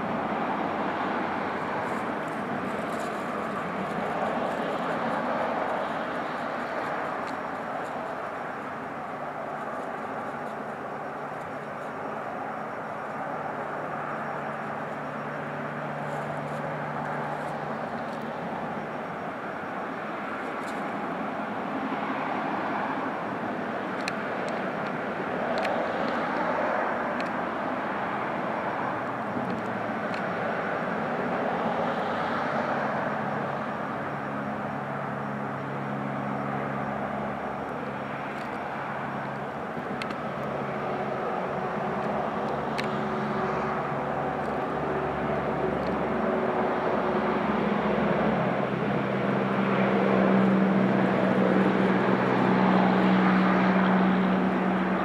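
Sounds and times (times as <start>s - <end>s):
distant engine drone: 0.0s - 55.0s.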